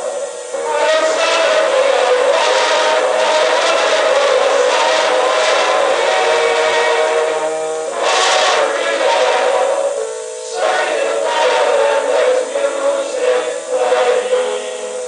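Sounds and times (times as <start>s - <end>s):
men's choir singing held chords: 0.0s - 15.0s.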